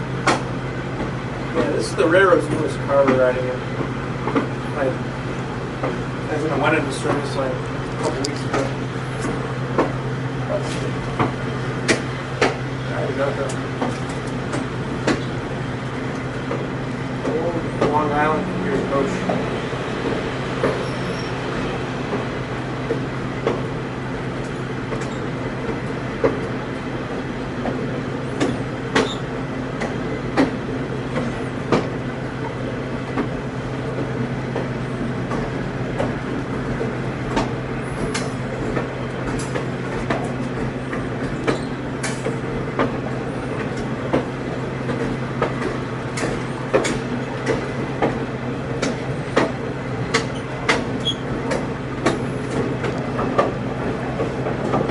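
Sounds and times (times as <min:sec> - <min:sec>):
train rumble and hum: 0:00.0 - 0:54.9.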